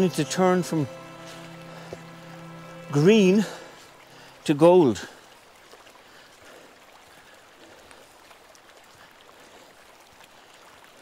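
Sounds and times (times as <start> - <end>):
river flowing over rapids: 0.0 - 11.0.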